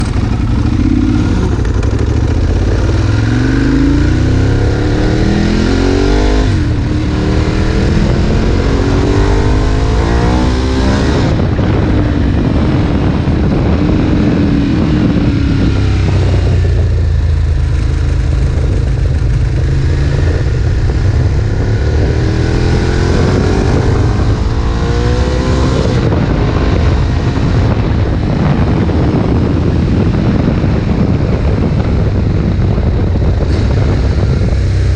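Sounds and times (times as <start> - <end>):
motorcycle engine accelerating hard: 0.0 - 34.9.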